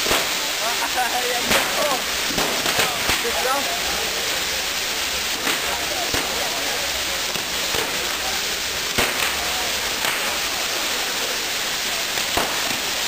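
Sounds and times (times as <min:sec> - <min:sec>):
firework cracks: 0:00.0 - 0:13.0
firework hissing: 0:00.0 - 0:13.0.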